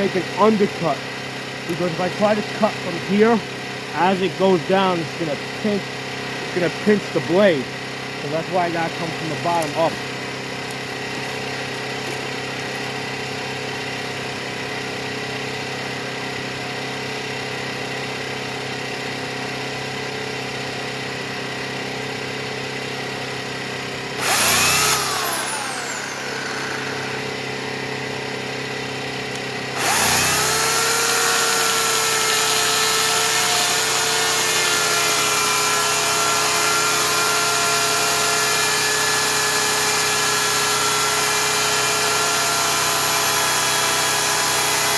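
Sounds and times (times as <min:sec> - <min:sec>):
electric chainsaw whining: 0:00.0 - 0:44.9
generator engine running: 0:00.0 - 0:44.9.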